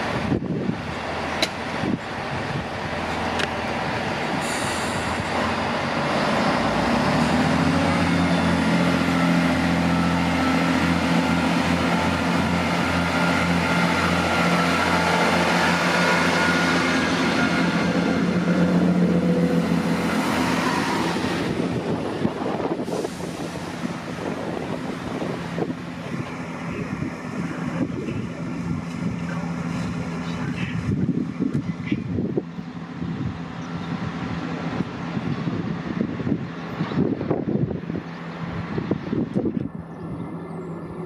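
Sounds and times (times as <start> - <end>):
diesel train engines droning: 0.0 - 41.0.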